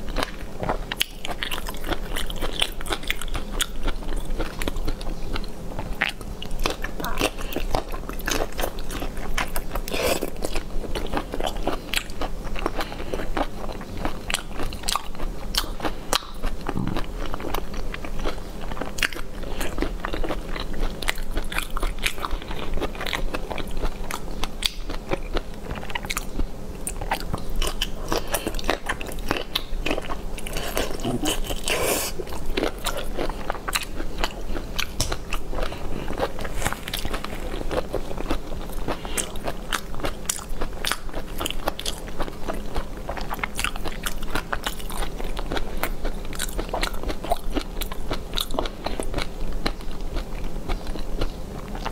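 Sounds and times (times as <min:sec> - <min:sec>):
crunchy biting and chewing: 0:00.0 - 0:51.9.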